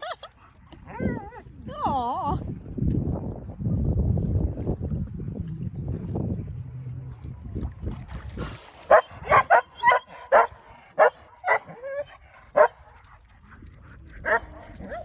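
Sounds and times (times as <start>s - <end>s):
low rumble of wind or water: 0.0s - 15.0s.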